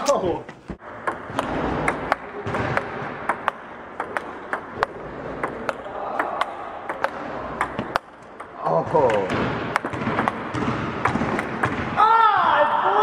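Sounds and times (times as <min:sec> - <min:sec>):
steady background din: 0:00.0 - 0:13.0
basketballs bouncing on gym floor: 0:00.6 - 0:12.5.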